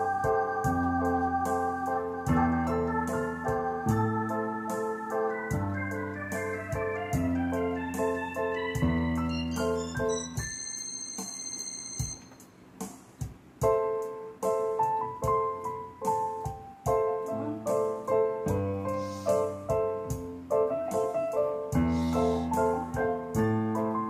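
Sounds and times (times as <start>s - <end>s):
solo piano music: 0.0s - 10.8s, 13.6s - 24.0s.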